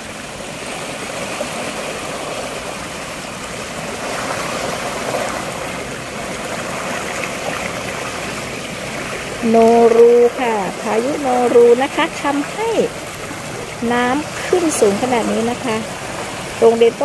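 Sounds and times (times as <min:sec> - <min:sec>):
floodwater rushing and swirling: 0:00.0 - 0:17.0.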